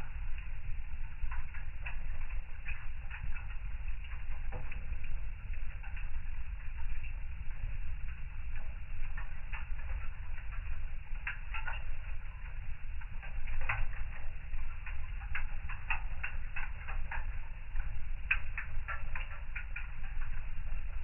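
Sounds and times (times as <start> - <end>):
fire crackling with pops: 0.0 - 21.0
low rumble of flames: 0.0 - 21.0.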